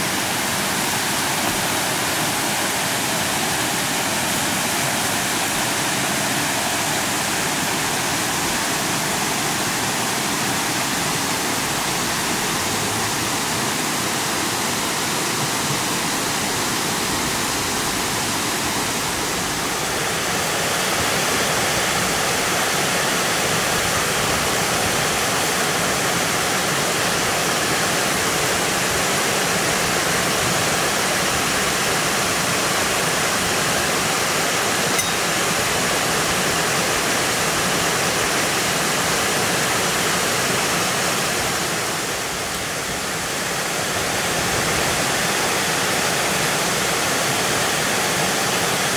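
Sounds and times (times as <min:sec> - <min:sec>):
stream rushing over waterfalls: 0:00.0 - 0:48.9.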